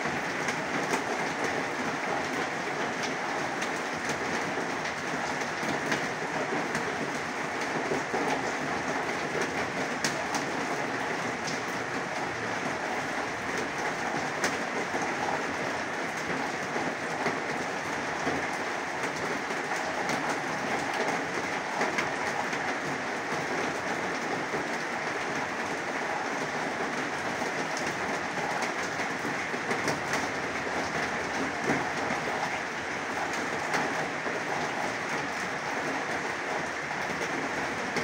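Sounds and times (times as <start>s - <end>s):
heavy rain on metal roof: 0.0s - 38.0s.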